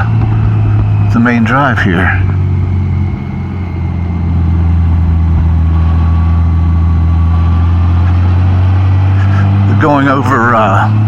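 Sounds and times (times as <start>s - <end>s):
motorcycle engine hum: 0.0s - 11.0s
road noise: 0.0s - 11.0s.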